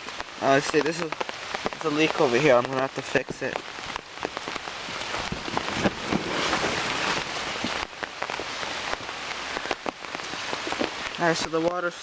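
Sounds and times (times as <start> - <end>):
heavy rain falling: 0.0 - 12.0
raindrops ticking: 0.0 - 12.0.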